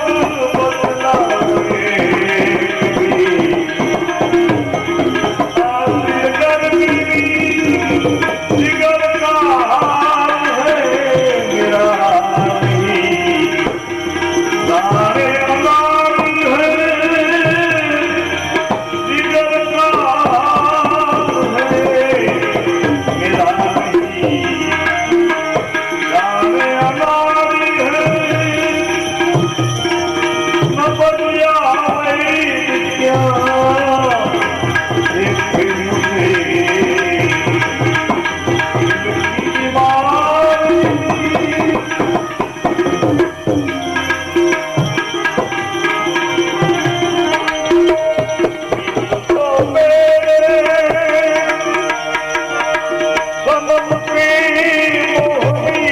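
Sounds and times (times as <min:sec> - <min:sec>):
tabla playing steady rhythm: 0:00.0 - 0:55.9.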